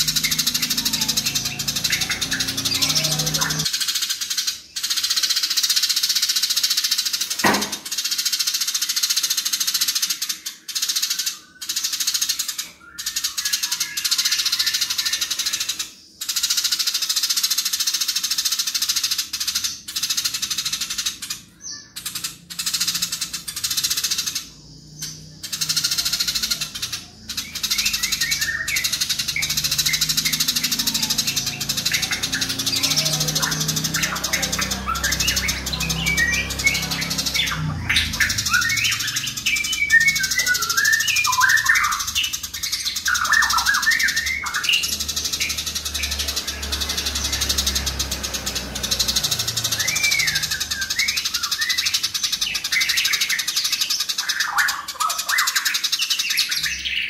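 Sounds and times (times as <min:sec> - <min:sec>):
sparrows chattering harshly: 0:00.0 - 0:57.0.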